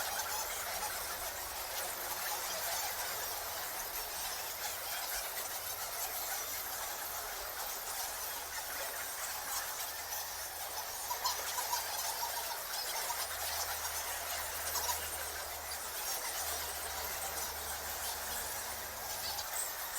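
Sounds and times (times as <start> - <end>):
bats squeaking: 0.0 - 19.9.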